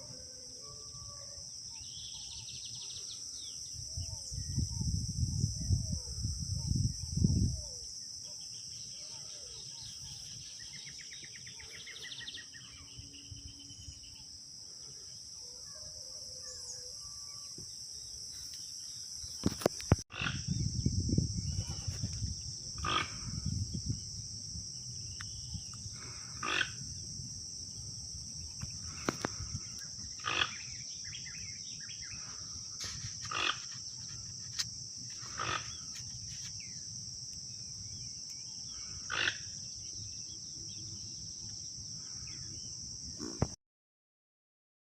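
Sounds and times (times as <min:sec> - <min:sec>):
high-pitched insect chirring: 0:00.4 - 0:43.4.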